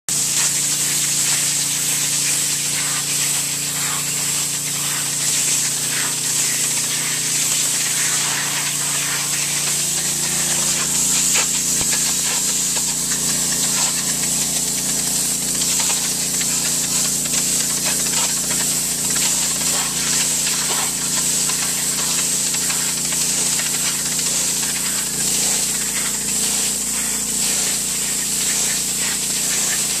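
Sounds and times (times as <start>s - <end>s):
pressure washer jet hissing: 0.1s - 30.0s.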